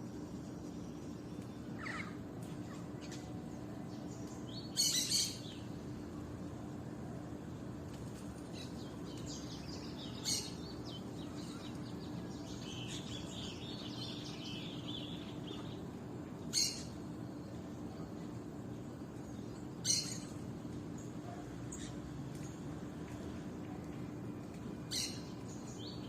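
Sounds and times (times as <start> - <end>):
small birds chirping: 0.0 - 6.6, 7.9 - 26.0.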